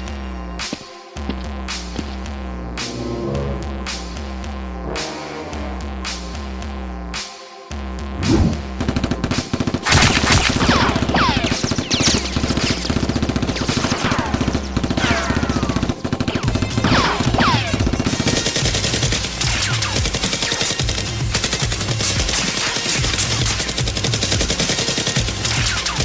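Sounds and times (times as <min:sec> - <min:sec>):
background music with low beat: 0:00.0 - 0:26.0.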